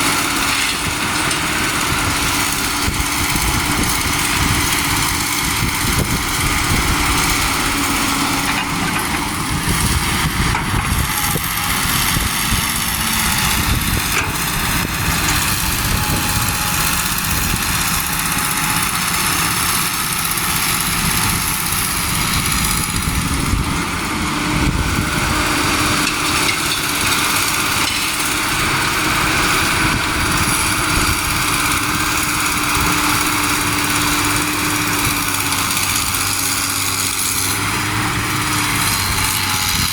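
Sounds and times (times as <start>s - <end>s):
truck engines rumbling: 0.0s - 39.9s.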